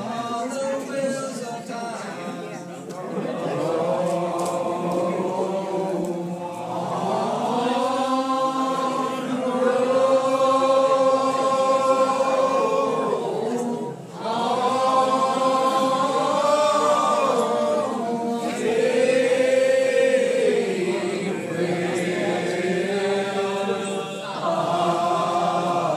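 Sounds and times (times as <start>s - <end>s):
congregation singing a hymn: 0.0s - 25.9s.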